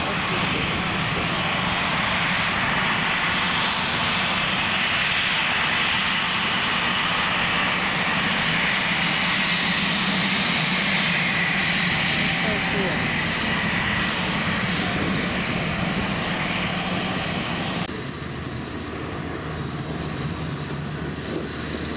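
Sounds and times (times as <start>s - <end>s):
aircraft engine drone: 0.0s - 21.9s.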